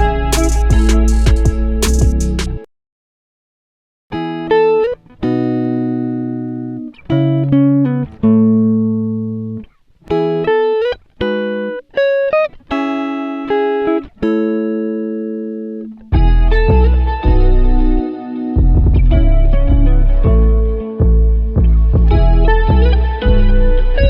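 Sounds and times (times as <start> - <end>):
plucked-string melody: 0.0 - 2.7, 4.1 - 24.0.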